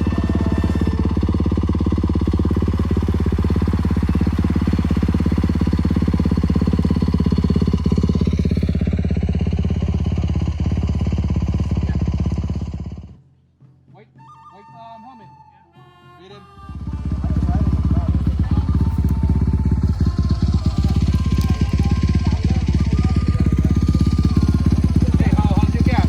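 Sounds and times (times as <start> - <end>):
dirt bike engine running: 0.0 - 13.2, 16.7 - 26.0.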